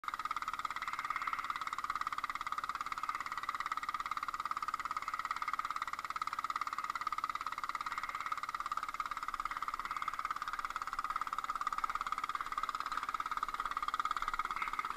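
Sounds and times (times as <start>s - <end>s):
boat engine running: 0.0s - 14.9s.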